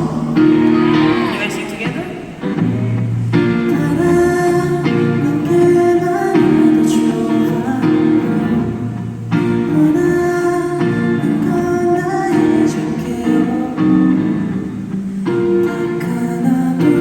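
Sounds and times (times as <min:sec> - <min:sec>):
live band with guitar: 0:00.0 - 0:17.0
person singing: 0:00.0 - 0:17.0.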